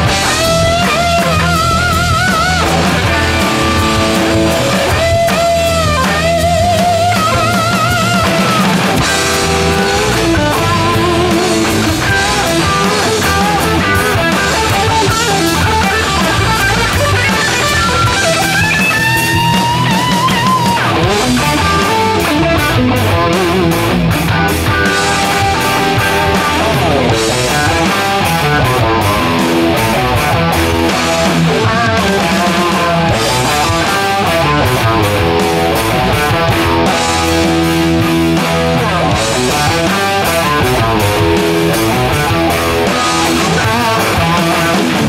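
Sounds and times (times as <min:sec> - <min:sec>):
electric guitar solo: 0:00.0 - 0:45.0
rock backing track: 0:00.0 - 0:45.0.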